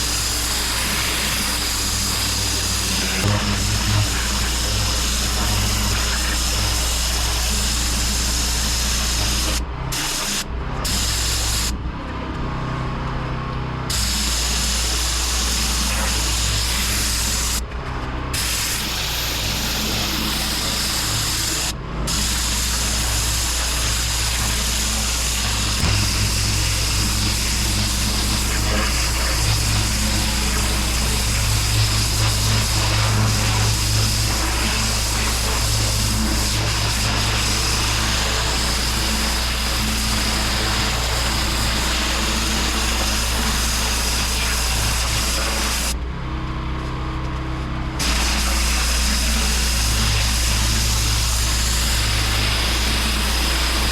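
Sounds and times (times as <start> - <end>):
pressure washer jet hissing on paving: 0.0 - 11.8, 13.9 - 17.7, 18.4 - 46.0, 48.0 - 53.9.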